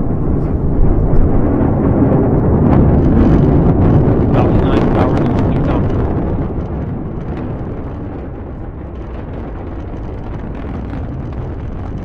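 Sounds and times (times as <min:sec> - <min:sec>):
rocket engines low rumble: 0:00.0 - 0:12.0.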